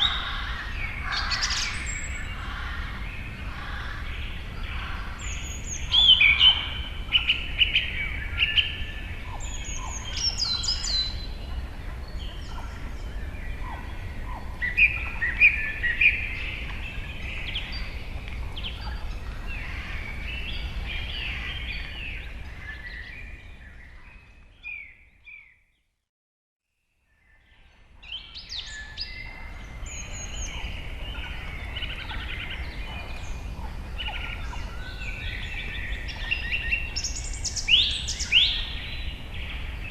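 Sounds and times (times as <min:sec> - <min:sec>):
low rumble of ambience: 0:00.0 - 0:24.8, 0:27.6 - 0:39.9
birds chirping and calling: 0:00.0 - 0:25.6, 0:27.4 - 0:39.9.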